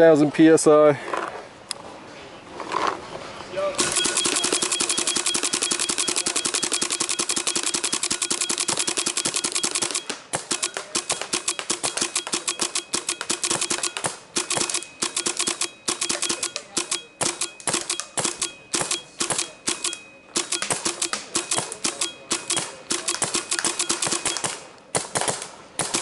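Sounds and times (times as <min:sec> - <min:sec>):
paintball marker rapid firing: 0:03.8 - 0:19.8, 0:20.4 - 0:26.0.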